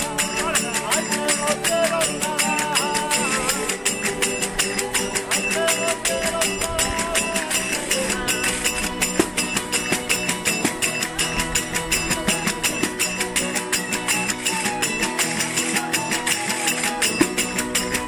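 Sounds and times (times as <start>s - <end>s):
gliding melody line: 0.0s - 18.0s
strummed guitars: 0.0s - 18.0s.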